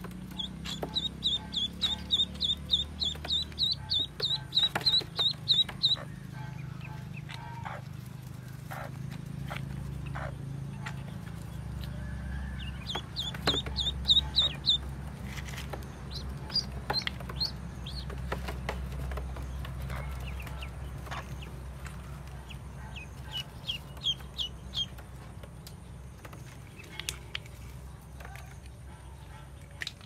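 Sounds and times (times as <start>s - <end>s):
steady low hum: 0.0s - 29.7s
ducklings peeping: 0.0s - 30.0s.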